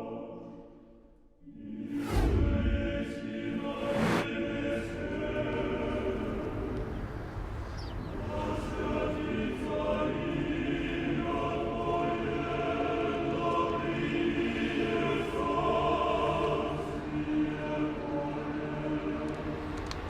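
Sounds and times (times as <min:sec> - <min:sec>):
choir singing a chant: 0:00.0 - 0:20.0.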